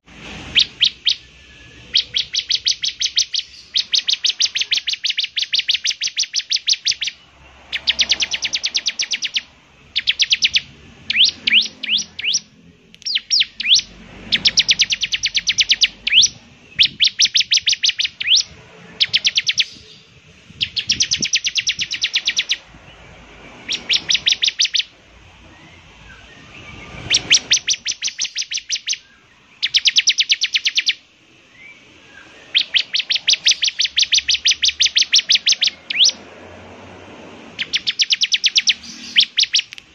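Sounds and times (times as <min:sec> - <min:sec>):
bird singing rapid high notes: 0:00.2 - 0:36.4, 0:37.4 - 0:39.9.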